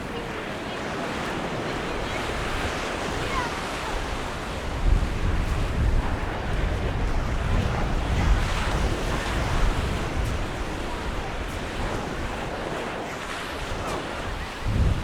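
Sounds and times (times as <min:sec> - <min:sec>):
surf washing onto beach: 0:00.0 - 0:15.0
wind rumbling on microphone: 0:00.0 - 0:15.0.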